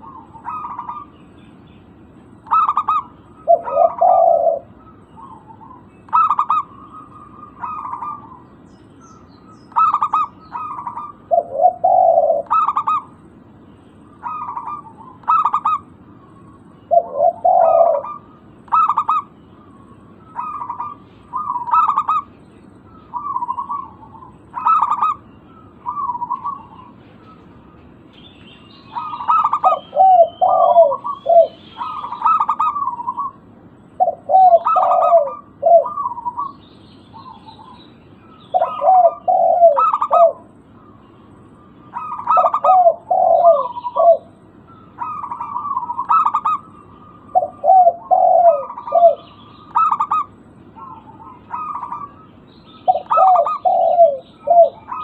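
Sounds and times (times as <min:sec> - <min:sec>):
dove cooing: 0:00.0 - 0:01.2, 0:02.2 - 0:08.6, 0:09.6 - 0:13.3, 0:14.0 - 0:27.9, 0:28.8 - 0:55.0.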